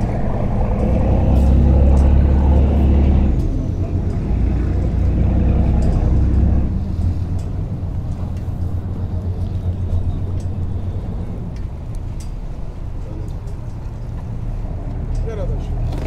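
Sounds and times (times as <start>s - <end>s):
boat diesel engine rumbling: 0.0s - 16.0s.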